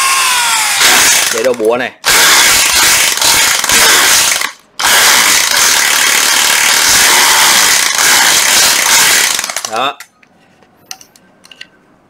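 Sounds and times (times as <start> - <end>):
hammer drill running: 0.0 - 9.7.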